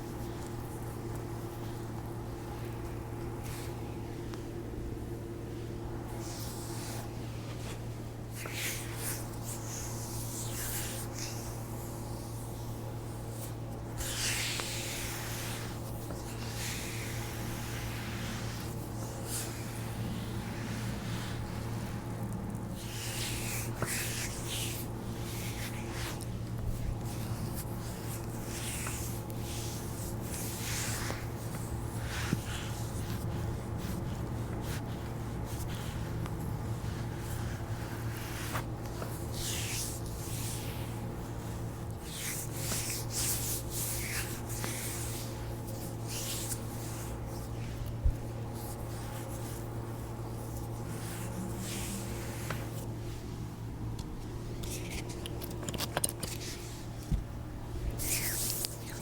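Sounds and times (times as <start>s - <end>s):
steady low hum: 0.0s - 59.0s
hands rubbing skin: 6.1s - 59.0s.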